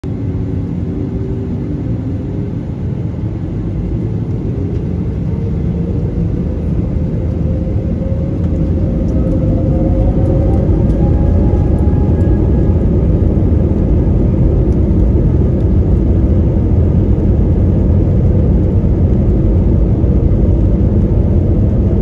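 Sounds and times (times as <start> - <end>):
jet engines powering up: 0.1 - 22.0.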